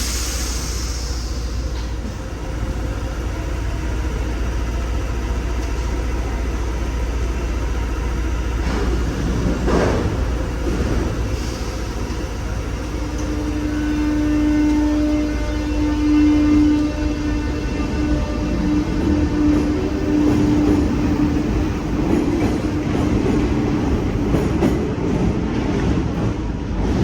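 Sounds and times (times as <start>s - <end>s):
train rumbling at platform: 0.0s - 27.0s.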